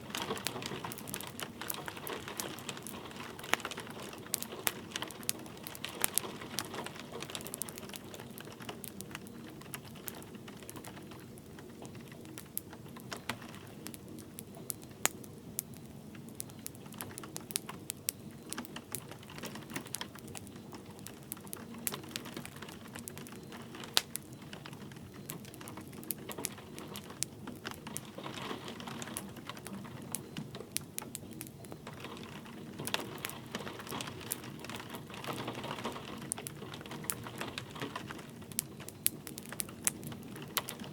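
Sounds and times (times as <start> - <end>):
light rain hissing: 0.0 - 40.9
wood fire crackling and popping: 0.0 - 40.9.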